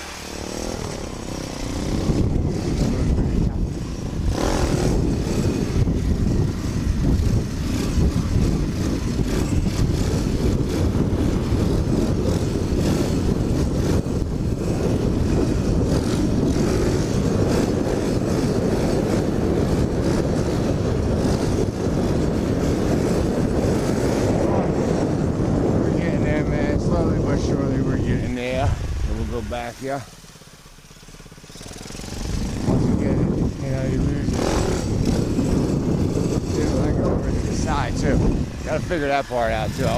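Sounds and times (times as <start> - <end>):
small motorbike engine running: 0.0 - 39.9
wind rushing over microphone: 0.0 - 39.9.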